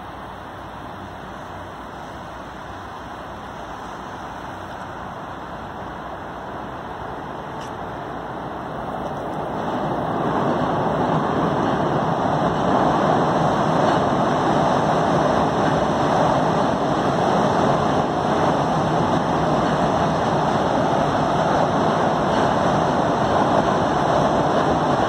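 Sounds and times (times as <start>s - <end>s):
train wheels rushing on rails: 0.0s - 25.0s.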